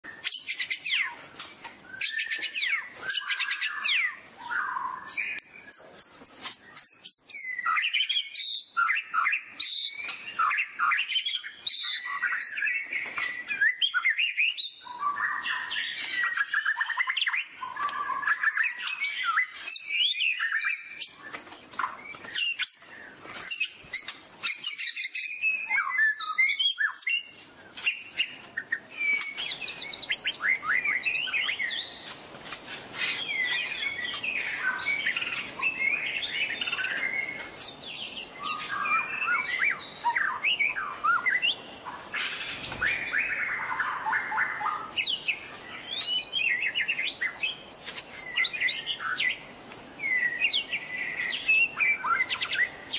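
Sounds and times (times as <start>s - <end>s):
flock of birds chirping: 0.0s - 52.9s.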